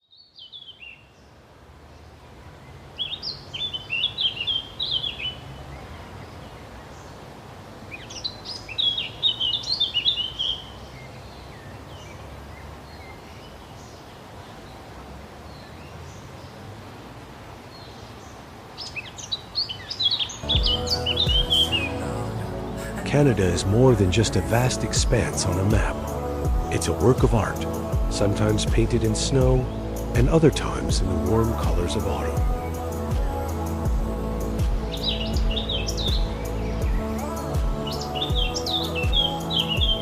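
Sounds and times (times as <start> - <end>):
songbird chirping: 0.0 - 40.0
low background noise: 0.1 - 40.0.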